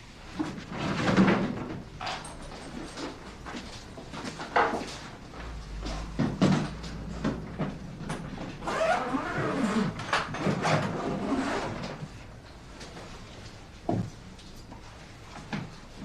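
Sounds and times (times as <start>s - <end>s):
sliding and rustling: 0.0s - 16.0s.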